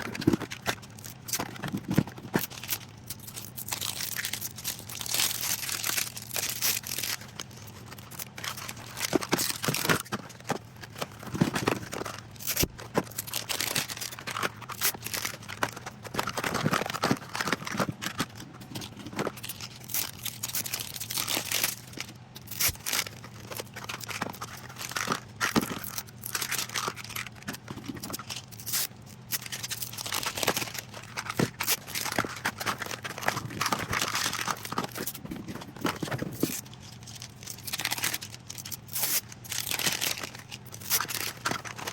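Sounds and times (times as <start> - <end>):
plastic crinkling and rustling: 0.0 - 41.9.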